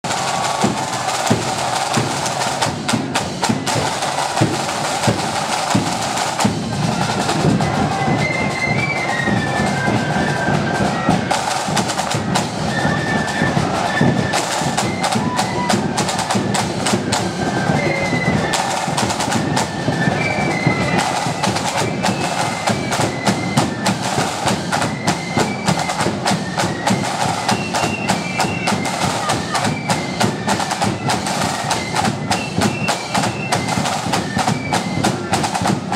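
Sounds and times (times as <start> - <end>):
flutes playing melody: 0.0 - 35.9
snare drums rattling: 0.0 - 35.9.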